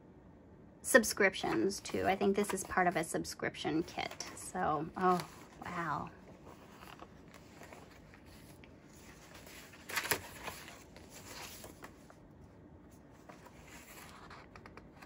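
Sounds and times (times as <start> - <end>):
paper rustling and sliding: 1.4 - 12.2, 12.9 - 15.0.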